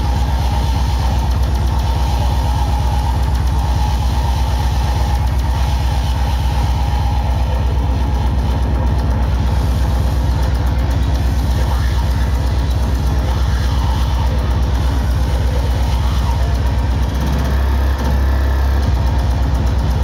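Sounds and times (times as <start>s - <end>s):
hardcore electronic music: 0.0s - 20.0s.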